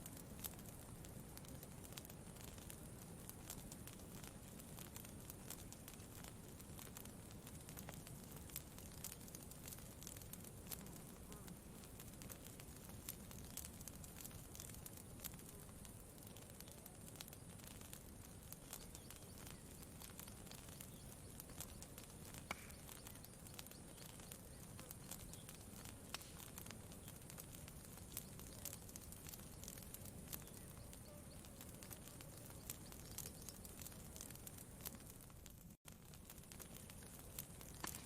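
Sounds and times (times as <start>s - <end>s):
faint campfire crackling: 0.0s - 38.0s.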